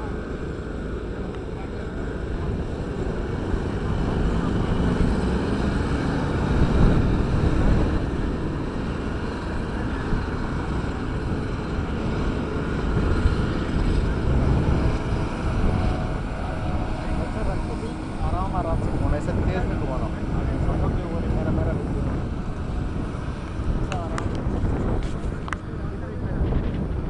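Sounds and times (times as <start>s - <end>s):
diesel machinery rumbling: 0.0s - 27.0s
wind buffeting microphone: 0.0s - 27.0s.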